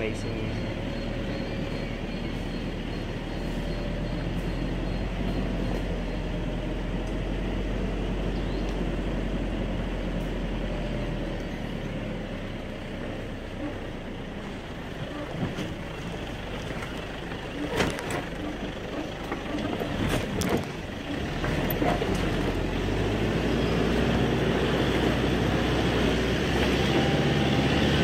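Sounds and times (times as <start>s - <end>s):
engine and drivetrain drone: 0.0s - 28.0s
road noise: 0.0s - 28.0s.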